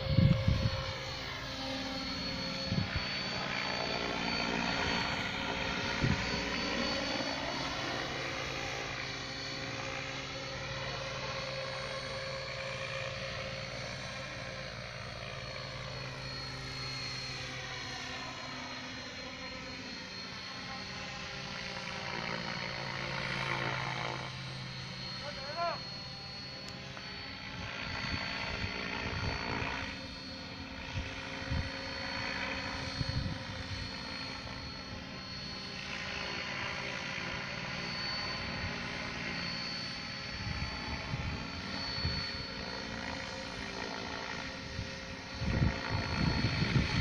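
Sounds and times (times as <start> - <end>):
high motor whine: 0.0 - 47.0
model helicopter rotor drone: 0.0 - 47.0.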